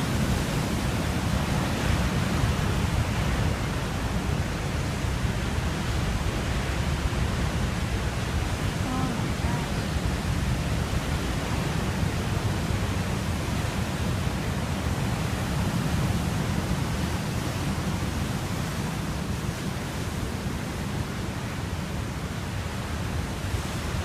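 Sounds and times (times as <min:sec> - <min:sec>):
ocean waves and surf: 0:00.0 - 0:24.0.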